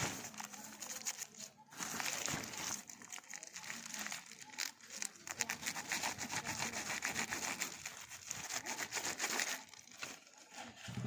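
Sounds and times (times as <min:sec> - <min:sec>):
packaging crackling: 0:00.0 - 0:10.9.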